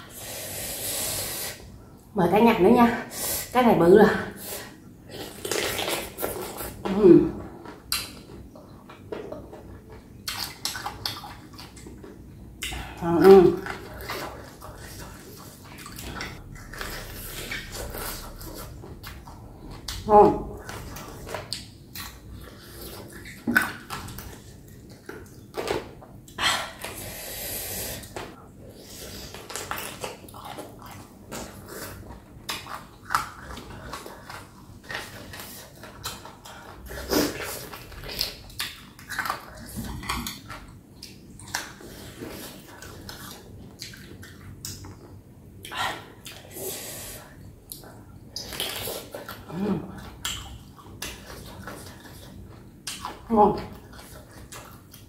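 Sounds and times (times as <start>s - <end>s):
wet chewing and smacking: 5.1s - 6.9s, 7.5s - 27.0s, 28.1s - 46.5s, 47.4s - 55.0s.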